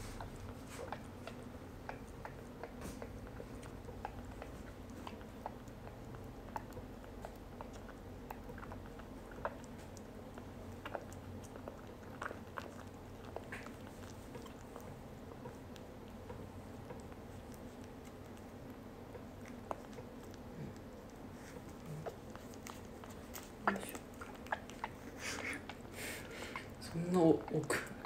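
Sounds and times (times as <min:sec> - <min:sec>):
kitten suckling from bottle: 0:00.0 - 0:28.0.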